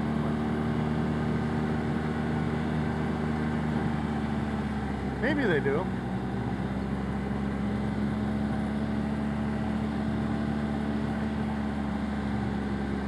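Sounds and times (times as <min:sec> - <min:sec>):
utility vehicle engine cruising: 0:00.0 - 0:13.0.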